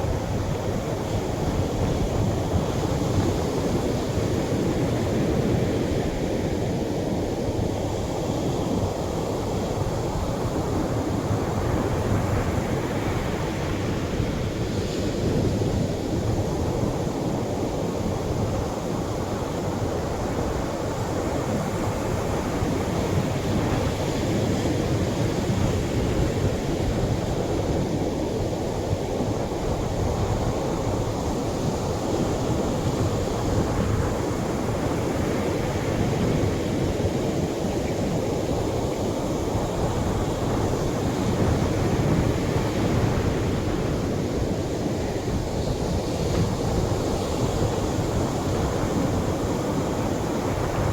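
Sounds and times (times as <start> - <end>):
surf washing onto a beach: 0.0 - 50.9.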